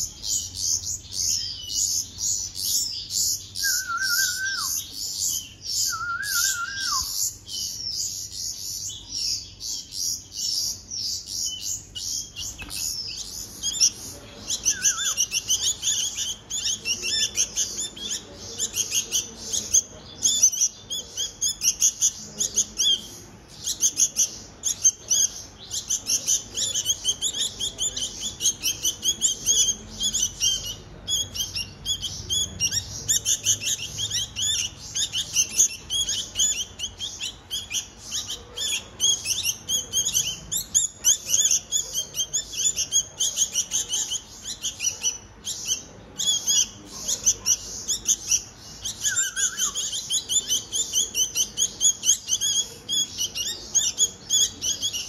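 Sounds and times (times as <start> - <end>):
chicks begging chirps: 0.0 - 55.0.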